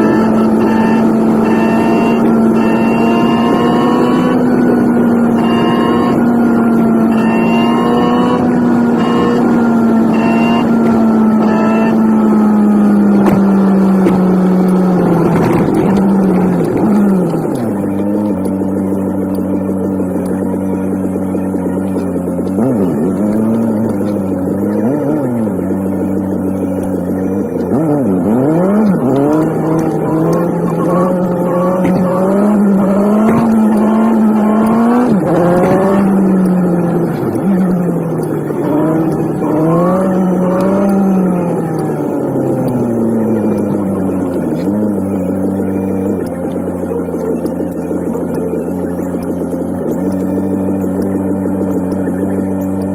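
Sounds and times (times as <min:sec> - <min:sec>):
high-pitched car engine hum: 0:00.0 - 0:52.9.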